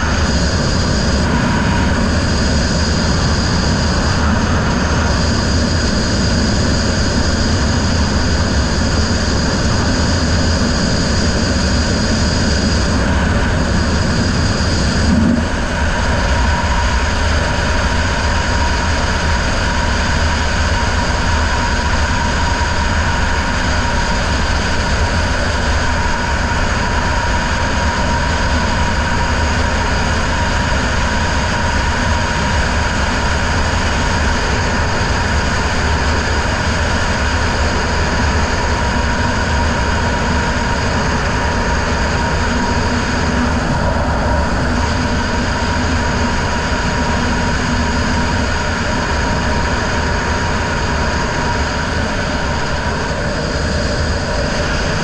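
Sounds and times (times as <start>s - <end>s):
outboard motor running at speed: 0.0s - 55.0s.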